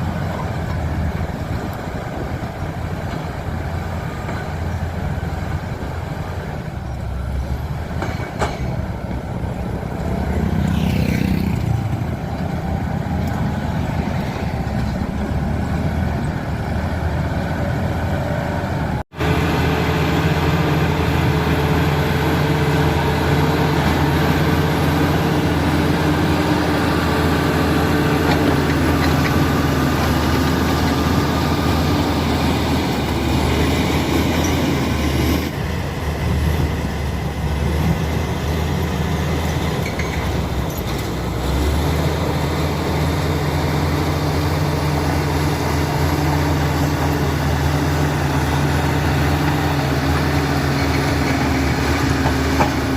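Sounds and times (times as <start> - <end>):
bulldozer diesel engine droning: 0.0 - 52.9.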